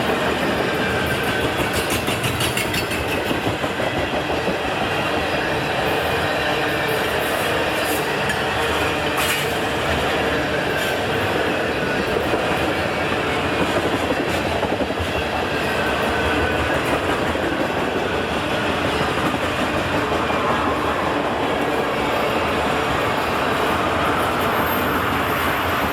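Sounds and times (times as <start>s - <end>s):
train wheels rumbling on rails: 0.0s - 25.9s.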